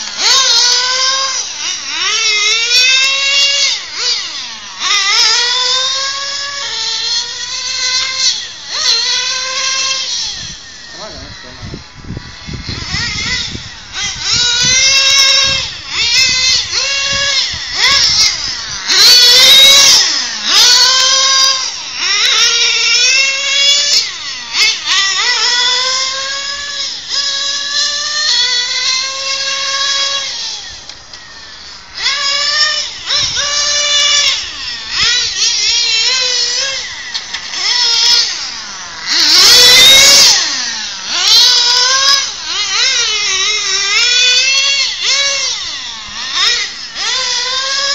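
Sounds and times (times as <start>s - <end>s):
small engine high-pitched whine: 0.0s - 47.9s.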